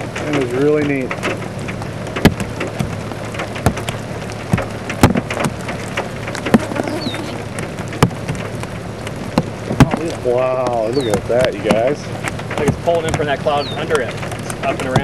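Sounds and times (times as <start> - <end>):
raindrops tapping near microphone: 0.0 - 15.0
steady rain hiss: 0.0 - 15.0.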